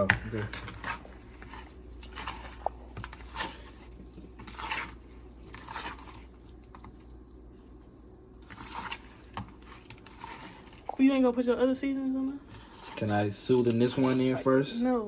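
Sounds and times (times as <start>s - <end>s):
hands mixing wet shrimp: 0.0s - 15.0s.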